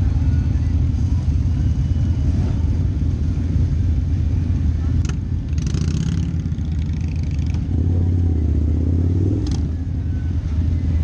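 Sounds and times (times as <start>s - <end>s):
motorcycle engine rumbling: 0.0s - 11.0s
other motorcycles running: 0.0s - 11.0s.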